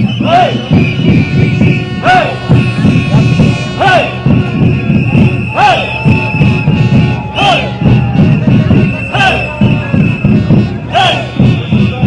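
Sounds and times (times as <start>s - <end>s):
high whistle-like tone: 0.0s - 2.8s, 4.2s - 12.0s
drums beating: 0.0s - 12.0s
protest crowd: 0.0s - 12.0s.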